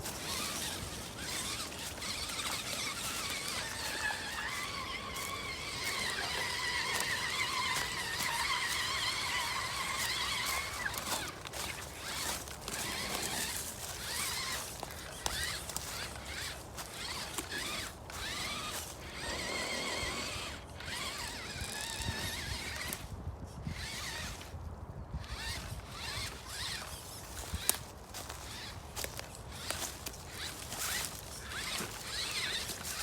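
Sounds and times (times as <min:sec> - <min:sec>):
chassis and tyres clicking scraping: 0:00.0 - 0:33.0
electric motor whine: 0:00.0 - 0:33.0.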